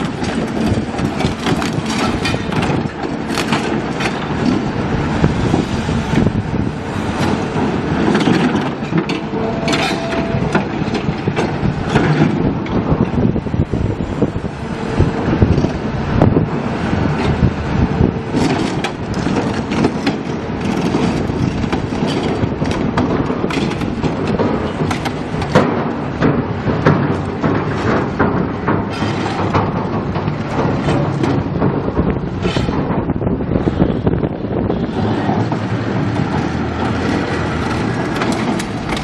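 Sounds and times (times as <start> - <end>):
heavy construction machine running: 0.0 - 39.0
sharp metallic clanks and crunches: 0.0 - 39.0.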